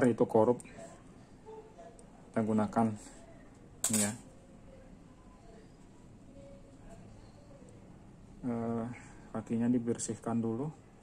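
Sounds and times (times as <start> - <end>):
faint low hum and hiss: 0.0 - 11.0.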